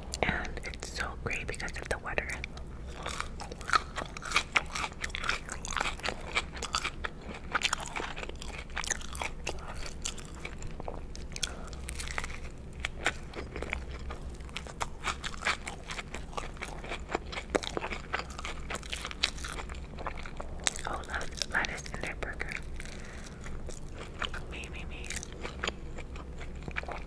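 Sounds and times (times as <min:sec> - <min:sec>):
close chewing and biting: 0:01.7 - 0:27.0.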